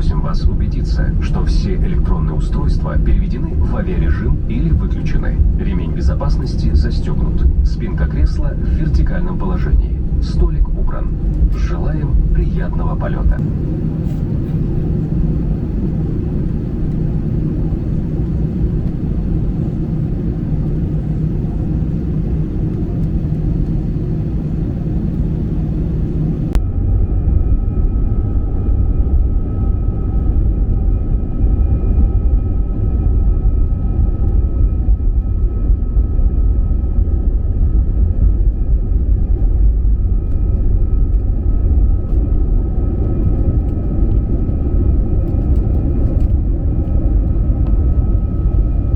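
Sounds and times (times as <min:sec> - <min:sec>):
deep engine rumble: 0:00.0 - 0:48.9
jet engine cabin hum: 0:00.0 - 0:48.9.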